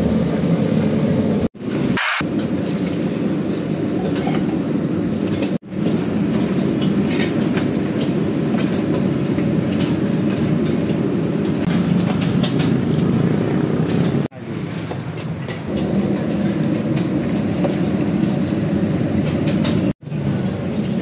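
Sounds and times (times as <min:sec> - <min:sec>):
gas burner rumbling: 0:00.0 - 0:21.0.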